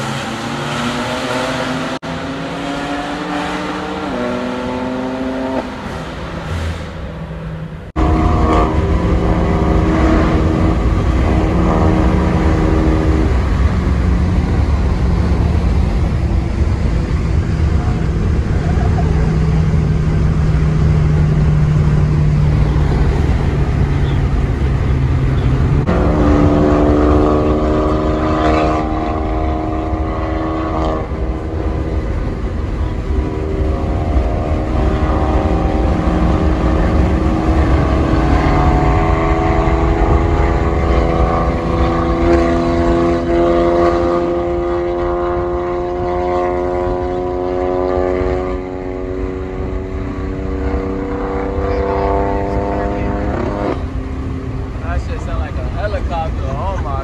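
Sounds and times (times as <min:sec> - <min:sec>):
car engine droning: 0:00.0 - 0:57.0
road noise: 0:00.0 - 0:57.0.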